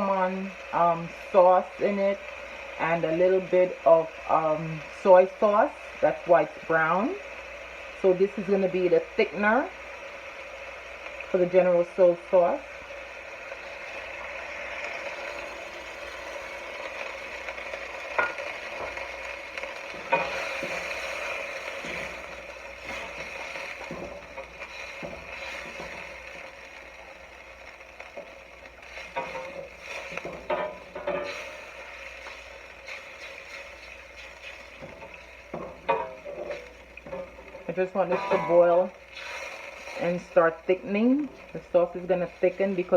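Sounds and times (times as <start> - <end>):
sauce sizzling in a pot: 0.0 - 42.9.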